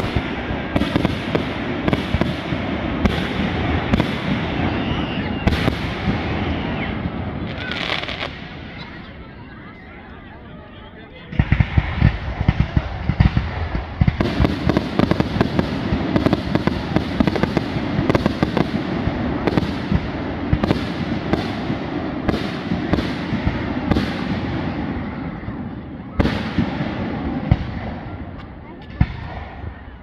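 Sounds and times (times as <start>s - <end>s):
fireworks bangs: 0.0s - 10.4s, 11.1s - 30.0s
rapid fireworks popping: 0.0s - 10.4s, 11.0s - 30.0s.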